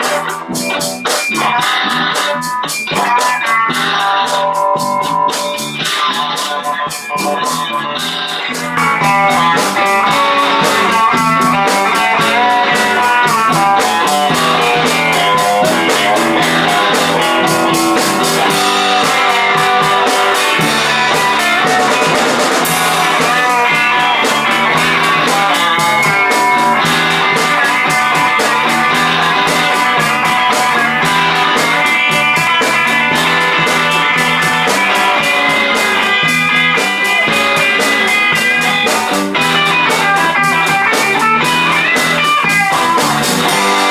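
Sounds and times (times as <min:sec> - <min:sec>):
drum kit steady beat: 0:00.0 - 0:43.9
electric guitar: 0:00.0 - 0:43.9.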